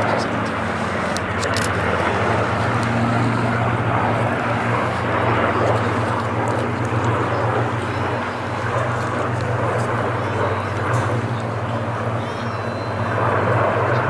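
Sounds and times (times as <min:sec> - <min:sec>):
propeller aircraft engine drone: 0:00.0 - 0:14.0.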